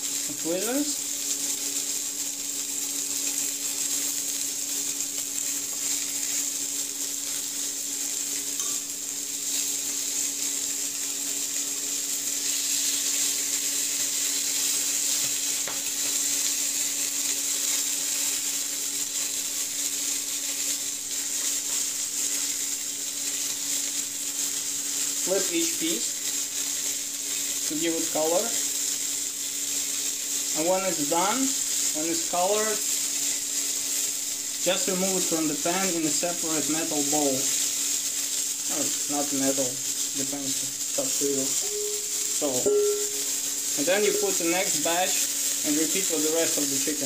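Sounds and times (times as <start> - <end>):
chicken sizzling in a pan: 0.0 - 47.0.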